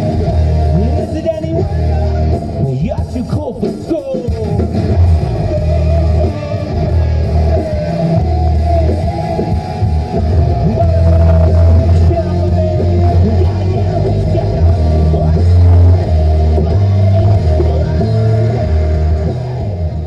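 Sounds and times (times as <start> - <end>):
rock song on car stereo: 0.0 - 20.0.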